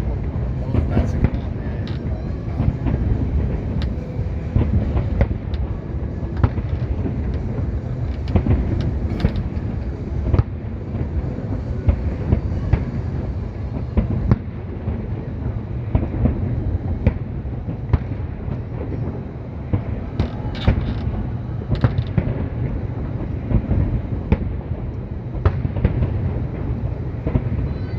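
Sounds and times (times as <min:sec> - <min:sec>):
fireworks rumbling booms: 0:00.0 - 0:27.9
fireworks sharp bangs: 0:00.0 - 0:27.9.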